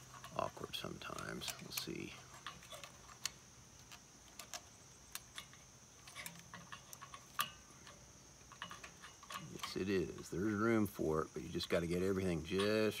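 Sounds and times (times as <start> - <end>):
small metal clicks: 0.0 - 13.0.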